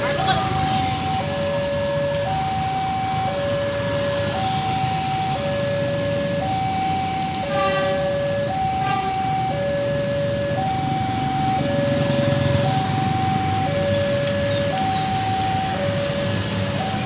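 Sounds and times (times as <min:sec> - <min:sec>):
low traffic rumble: 0:00.0 - 0:17.0
two-tone level crossing siren: 0:00.0 - 0:17.0.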